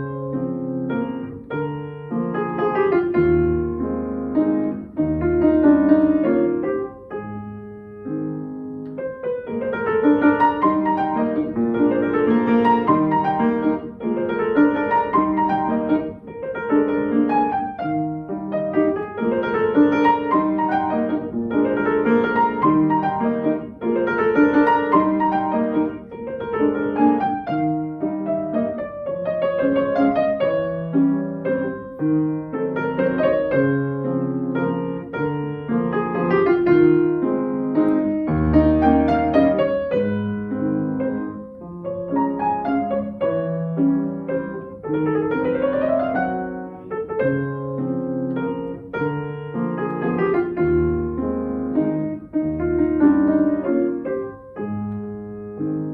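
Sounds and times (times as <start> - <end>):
solo classical piano: 0.0 - 55.9.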